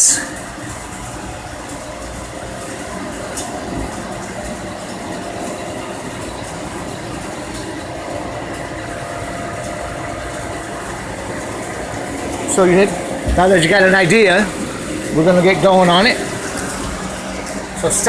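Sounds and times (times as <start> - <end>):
engine room machinery hum: 0.0 - 18.0.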